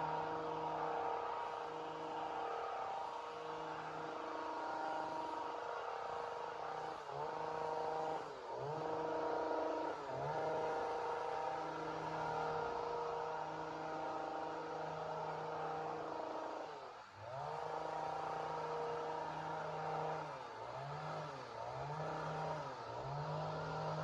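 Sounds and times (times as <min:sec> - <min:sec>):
chainsaw engine running: 0:00.0 - 0:24.0.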